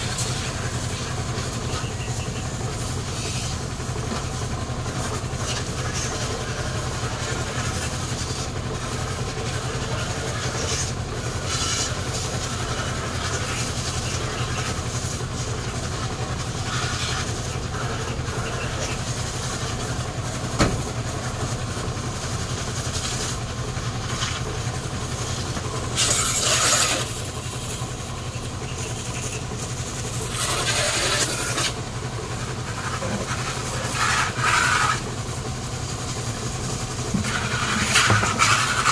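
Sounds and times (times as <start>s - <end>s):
hose spraying water: 0.0s - 38.9s
low engine rumble: 0.0s - 38.9s.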